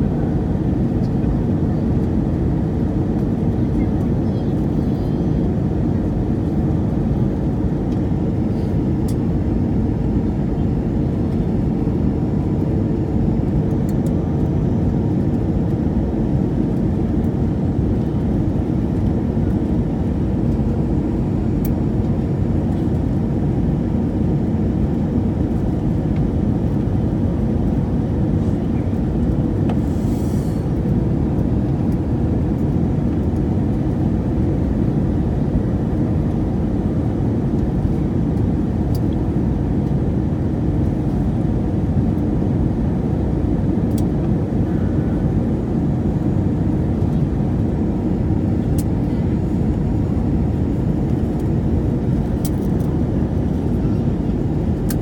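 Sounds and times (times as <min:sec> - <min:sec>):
jet engine and airflow noise: 0:00.0 - 0:55.0.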